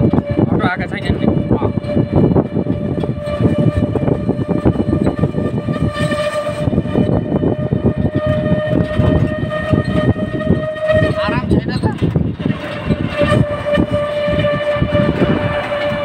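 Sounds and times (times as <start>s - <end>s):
road rumble: 0.0s - 16.0s
steady high vehicle whine: 0.0s - 16.0s
wind buffeting: 0.0s - 16.0s.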